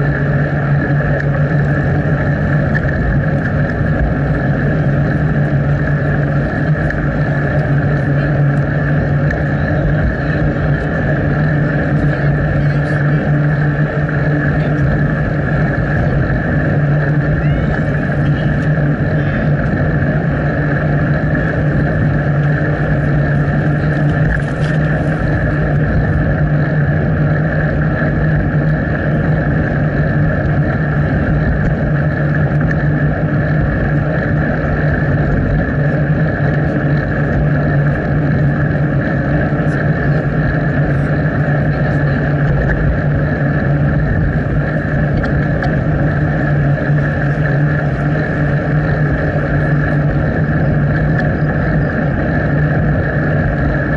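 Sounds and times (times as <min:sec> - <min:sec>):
bicycle rolling noise: 0:00.0 - 0:53.9
wind on microphone: 0:00.0 - 0:53.9.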